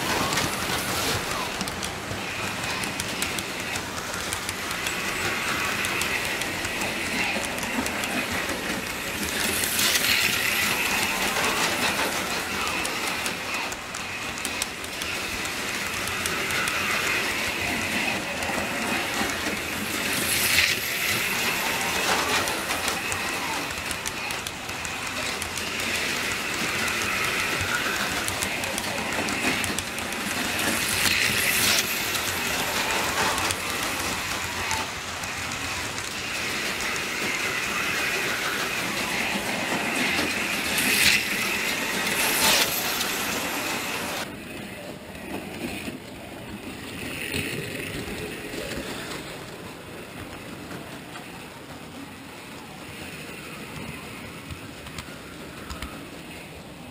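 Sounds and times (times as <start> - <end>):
constant high hum: 0.0 - 56.9
model train wheels clattering: 0.0 - 56.9.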